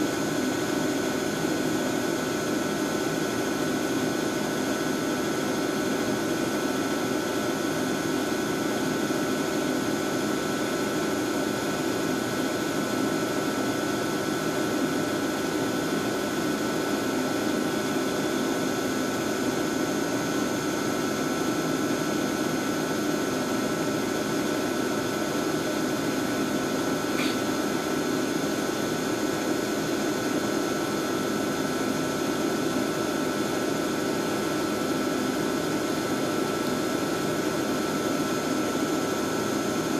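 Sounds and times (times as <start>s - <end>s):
machine whir with high whine: 0.0s - 39.9s.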